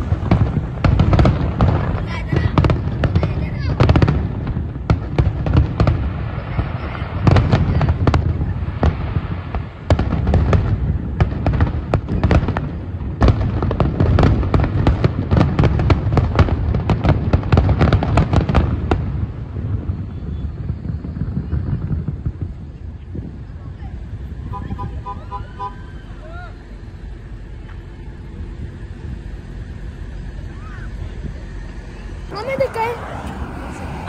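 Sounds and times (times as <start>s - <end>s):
low rumble: 0.0s - 15.3s, 18.6s - 34.0s
fireworks bangs and crackles: 0.0s - 34.0s.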